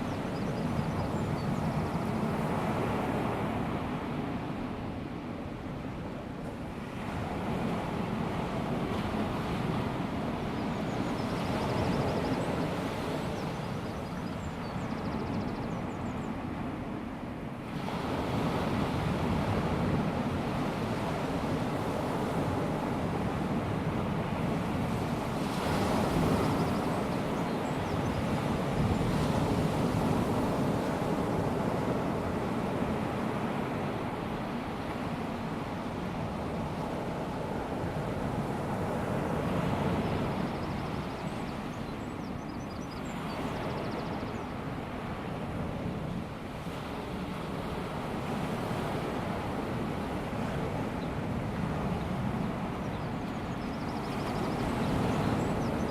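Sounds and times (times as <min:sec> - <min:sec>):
small waves on sandy beach: 0:00.0 - 0:55.9.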